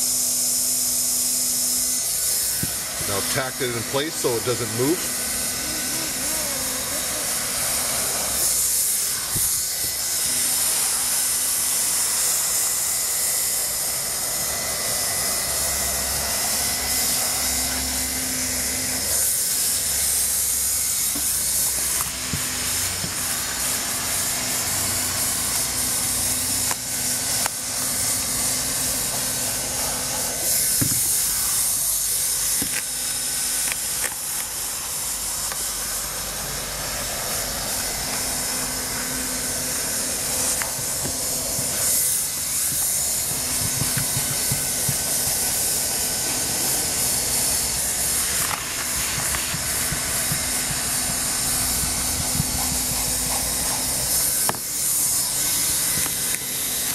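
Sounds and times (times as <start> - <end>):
blower humming: 0.0 - 56.9
hot air hissing: 0.0 - 56.9.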